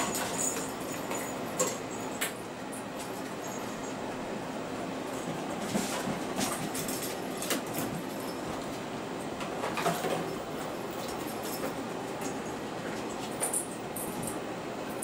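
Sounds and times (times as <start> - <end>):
toys and paws clattering: 0.0 - 4.0, 5.1 - 8.8, 9.4 - 14.4
kittens playing on tile floor: 0.0 - 4.1, 5.0 - 15.0.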